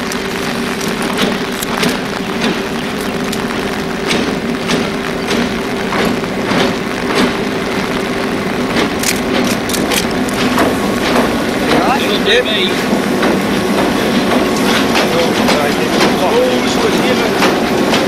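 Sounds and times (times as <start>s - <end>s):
diesel locomotive engine drone: 0.0s - 18.0s
wheels clicking over rail joints: 0.0s - 18.0s.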